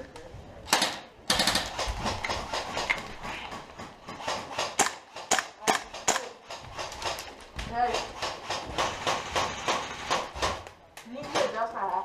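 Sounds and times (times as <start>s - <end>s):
sharp cracks and knocks: 0.7s - 11.6s.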